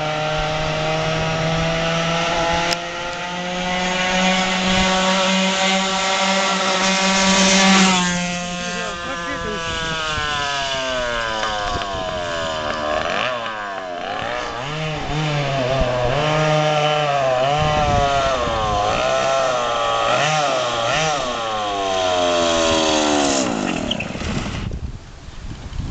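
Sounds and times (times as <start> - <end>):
go-kart engine revving: 0.0 - 24.7.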